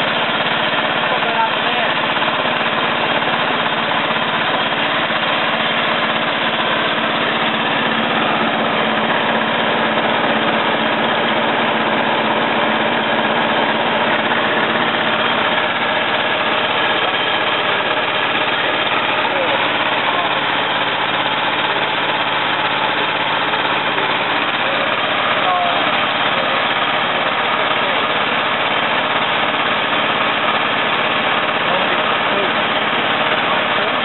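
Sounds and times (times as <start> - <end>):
small petrol engine running: 0.0 - 34.0.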